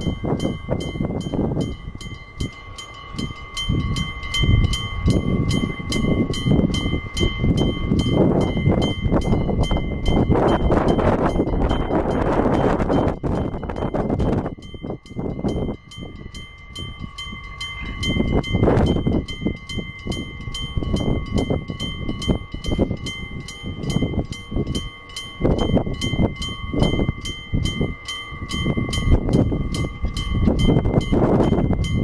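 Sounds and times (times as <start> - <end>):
level crossing bell ringing: 0.0 - 32.0
wind buffeting microphone: 0.0 - 32.0.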